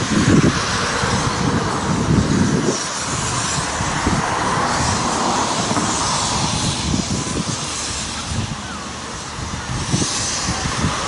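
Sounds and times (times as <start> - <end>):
locomotive low rumble: 0.0 - 11.0
steam hissing: 0.0 - 11.0.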